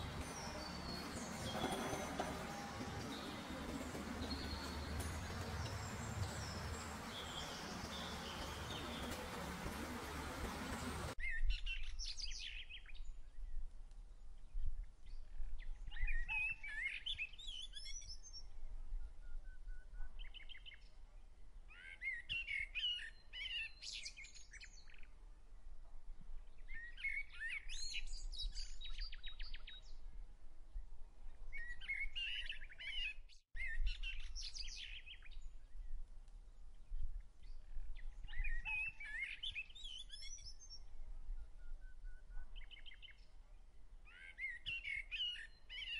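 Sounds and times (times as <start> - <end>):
songbird chirping: 0.0 - 25.2, 31.2 - 45.9.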